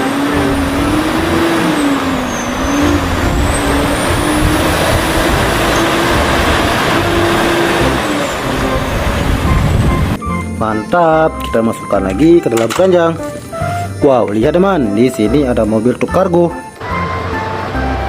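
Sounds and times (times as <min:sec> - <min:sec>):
vehicle engine running: 0:00.0 - 0:10.4, 0:12.0 - 0:18.0.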